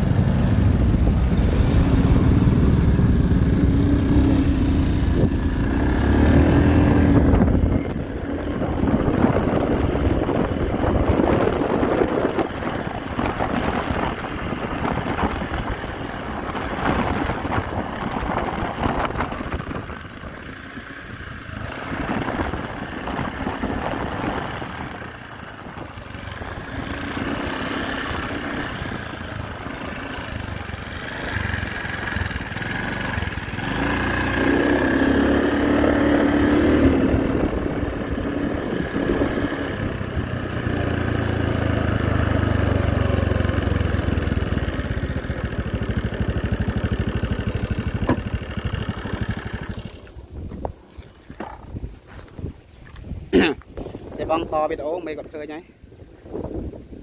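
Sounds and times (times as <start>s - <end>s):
motorcycle engine running: 0.0s - 56.8s
wind on microphone: 0.7s - 29.6s, 34.4s - 45.0s, 45.7s - 57.0s.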